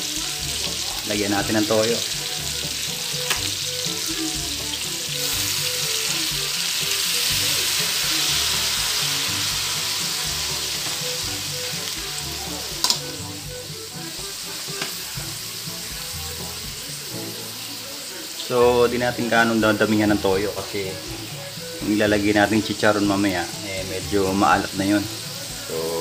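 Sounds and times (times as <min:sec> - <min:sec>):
food sizzling in wok: 0:00.0 - 0:26.0.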